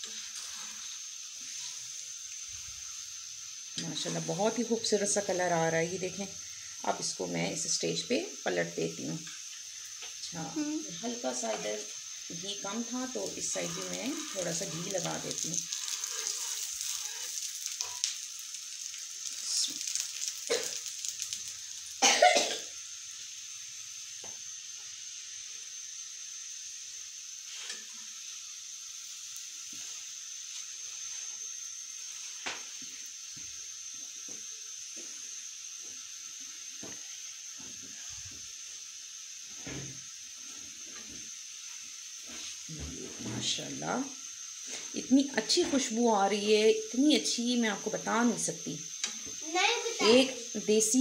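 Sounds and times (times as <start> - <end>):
ghee sizzling on a griddle: 0.0 - 51.0.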